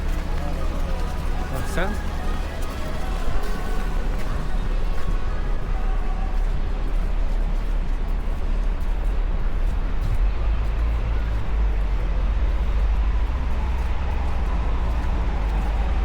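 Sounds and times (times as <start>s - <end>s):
passing vehicles engine rumble: 0.0s - 16.0s
road noise: 0.0s - 16.0s.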